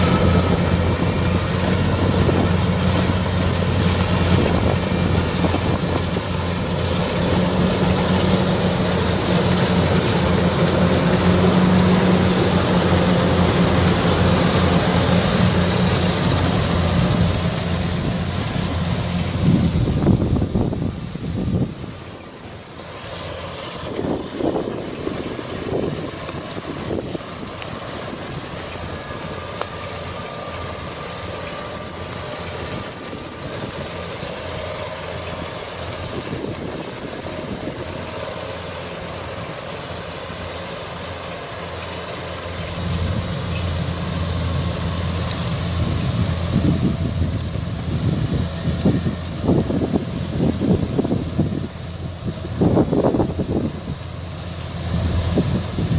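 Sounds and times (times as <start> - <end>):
combine harvester engine hum: 0.0 - 55.9.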